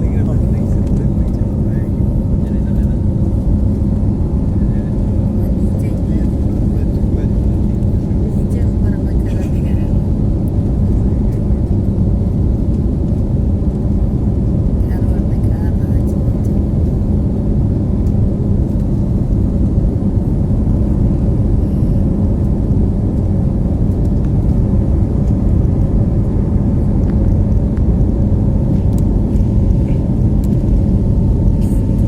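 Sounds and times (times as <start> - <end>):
faint steady hum: 0.0 - 32.0
jet engines rumbling: 0.0 - 32.0.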